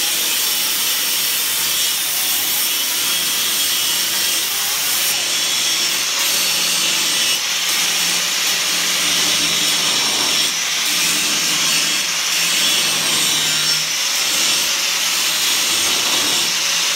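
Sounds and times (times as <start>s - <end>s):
power grinder grinding steel: 0.0s - 16.9s.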